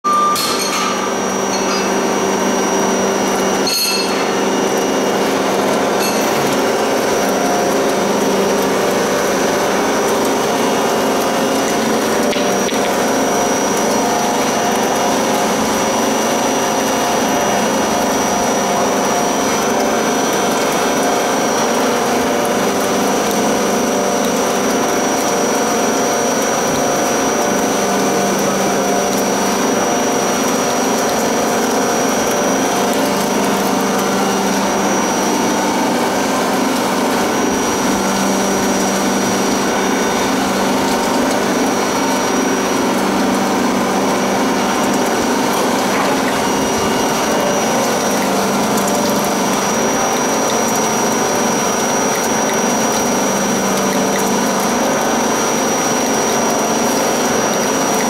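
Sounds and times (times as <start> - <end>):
high machine whine: 0.1 - 58.0
oil press machine hum: 0.1 - 58.0.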